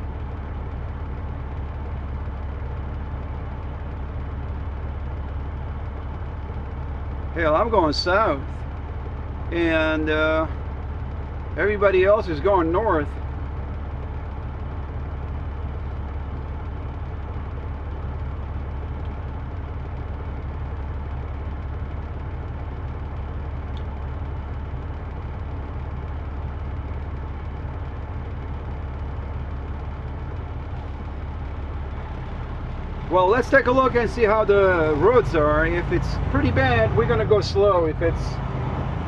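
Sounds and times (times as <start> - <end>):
truck diesel engine humming: 0.0 - 39.0.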